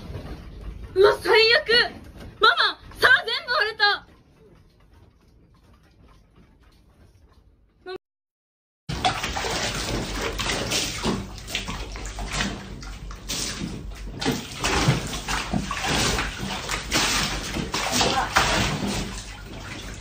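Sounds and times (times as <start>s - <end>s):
bath water sloshing: 0.0s - 7.8s, 8.9s - 20.0s.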